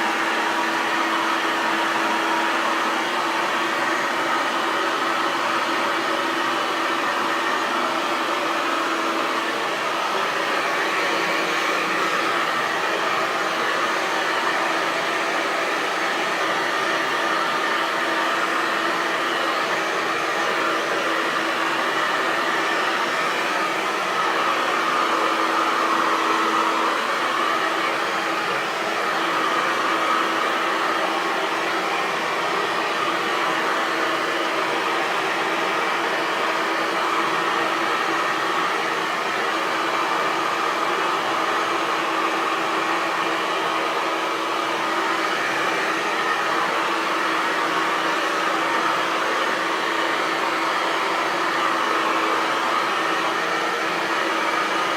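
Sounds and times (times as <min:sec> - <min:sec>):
hair dryer running: 0:00.0 - 0:54.9.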